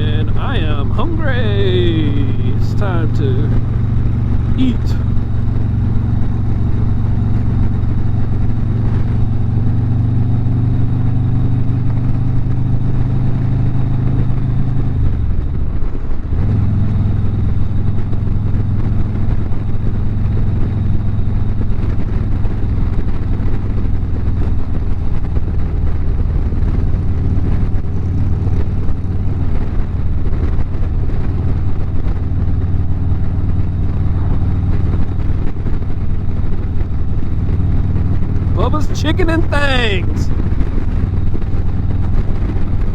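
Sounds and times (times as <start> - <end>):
motorcycle engine cruising: 0.0 - 42.9.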